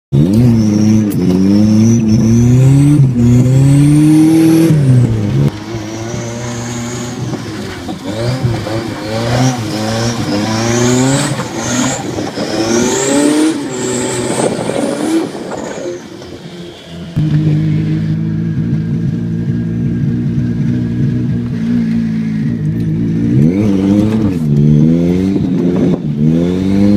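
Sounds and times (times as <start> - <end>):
car engine revving: 0.1 - 26.9.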